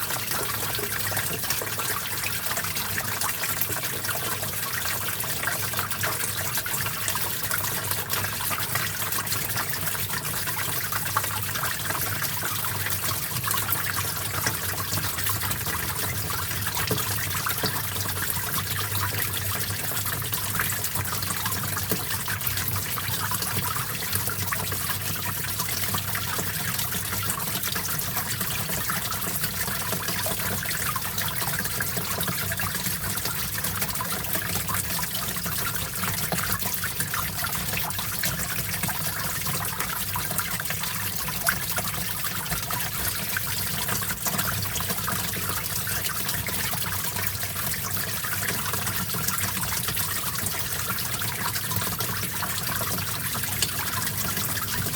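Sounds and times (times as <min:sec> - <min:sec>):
small stream trickling: 0:00.0 - 0:54.9.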